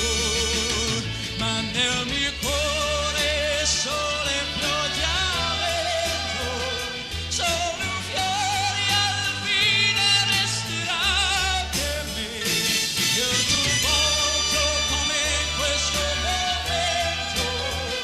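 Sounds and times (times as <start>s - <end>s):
band accompaniment with bass line: 0.0s - 18.0s
man singing with vibrato: 0.0s - 18.0s.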